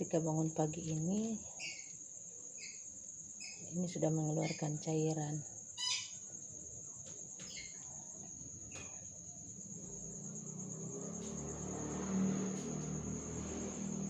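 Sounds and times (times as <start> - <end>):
insect chirring: 0.0 - 14.0.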